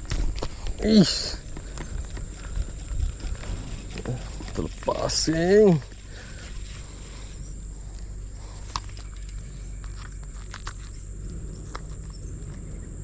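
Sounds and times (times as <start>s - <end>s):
faint clicks and rustles: 0.0s - 13.0s
high-pitched insect drone: 0.0s - 13.0s.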